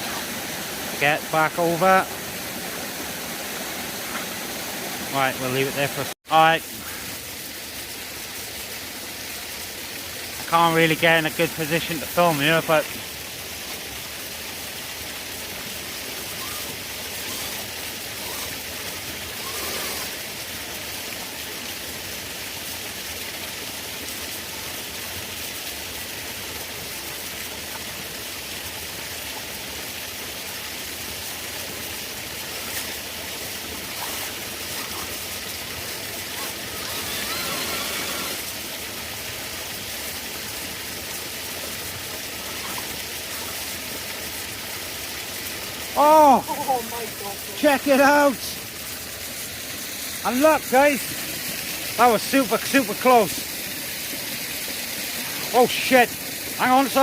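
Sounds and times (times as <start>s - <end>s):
stream and small waterfall rushing: 0.0s - 57.0s.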